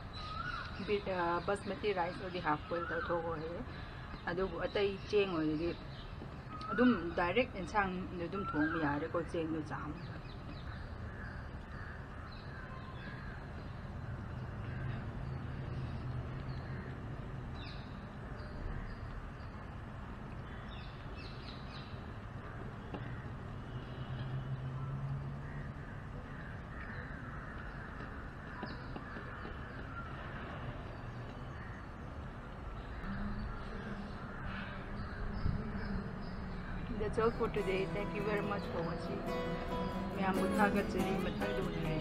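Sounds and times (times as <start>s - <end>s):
birds calling: 0.0s - 42.0s.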